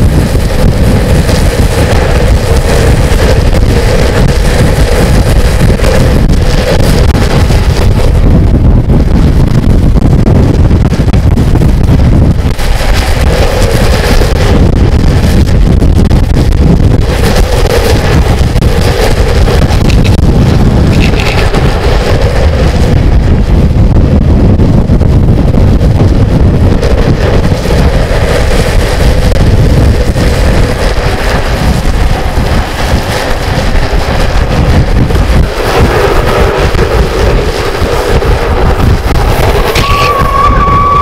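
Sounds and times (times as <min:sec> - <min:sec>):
longboard wheels rolling on asphalt: 0:00.0 - 0:41.0
wind buffeting microphone: 0:00.0 - 0:41.0.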